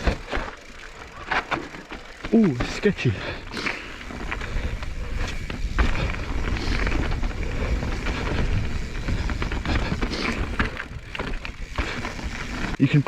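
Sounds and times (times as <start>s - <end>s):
bike clicks and rattles: 0.0s - 13.0s
bike rolling over rocky trail: 0.0s - 13.0s.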